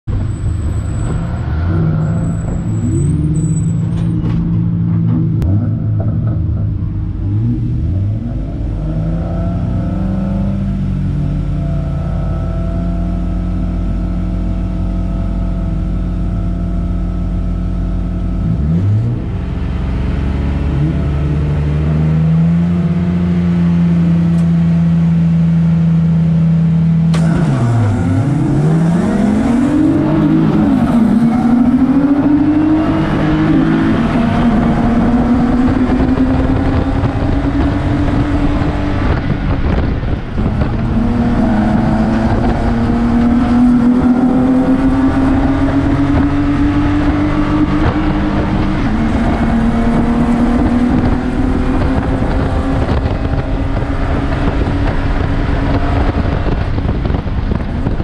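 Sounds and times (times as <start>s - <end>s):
road and wind noise: 0.0s - 58.0s
race car engine revving: 0.1s - 58.0s.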